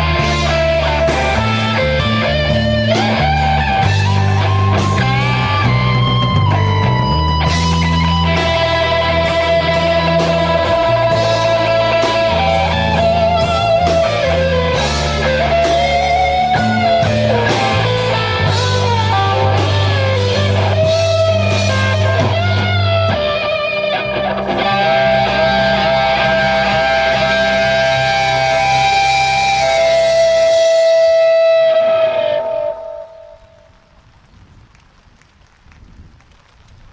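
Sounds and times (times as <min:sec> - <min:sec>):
live rock band playing: 0:00.0 - 0:33.6
bending lead guitar line: 0:00.0 - 0:33.8.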